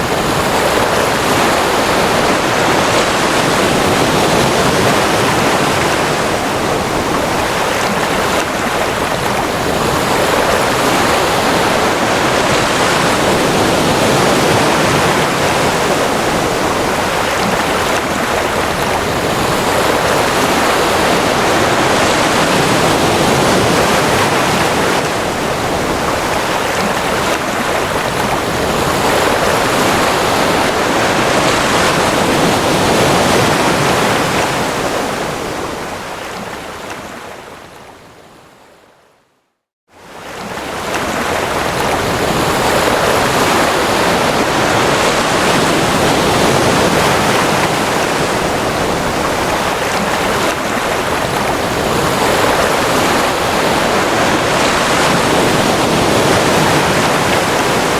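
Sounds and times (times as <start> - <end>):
ocean waves washing in: 0.0 - 39.0, 39.9 - 57.9.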